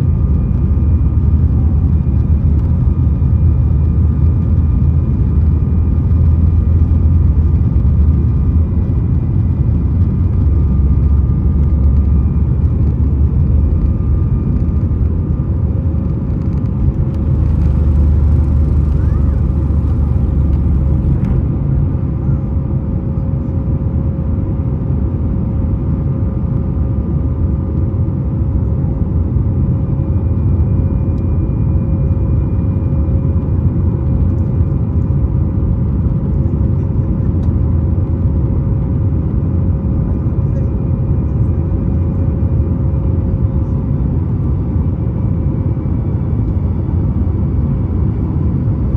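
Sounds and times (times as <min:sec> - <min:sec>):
engine hum: 0:00.0 - 0:48.9
jet engine rumble and airflow: 0:00.0 - 0:48.9.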